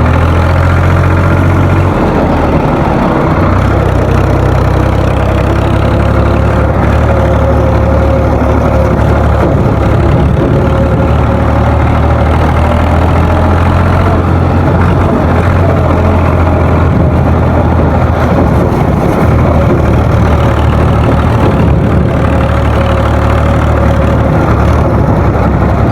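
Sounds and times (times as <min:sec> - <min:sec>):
tractor engine running: 0:00.0 - 0:25.9.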